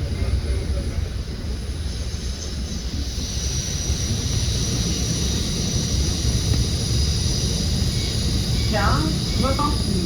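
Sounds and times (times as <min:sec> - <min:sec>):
moving train rumble: 0:00.0 - 0:10.0.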